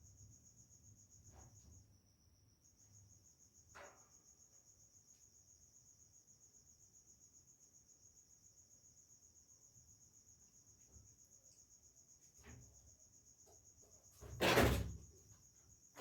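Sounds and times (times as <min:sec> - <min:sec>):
high-pitched insect trill: 0:00.0 - 0:14.2.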